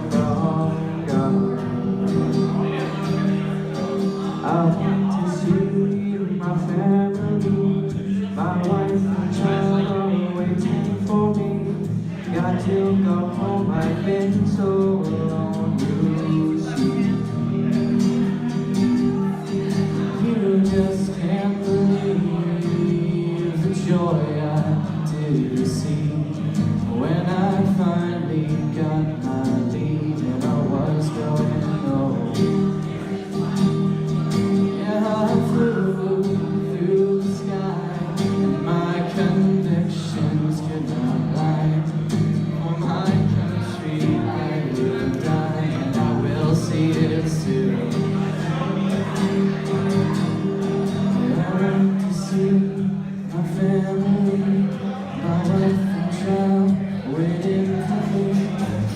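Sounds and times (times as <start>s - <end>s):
acoustic guitar: 0.0s - 58.9s
man singing: 0.0s - 58.9s.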